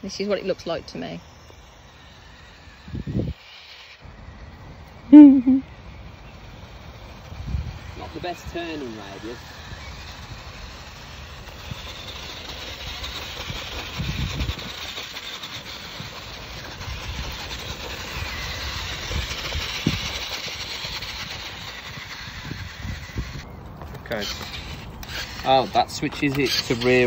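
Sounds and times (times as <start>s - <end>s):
rc car motor and gears whirring: 0.0s - 27.0s.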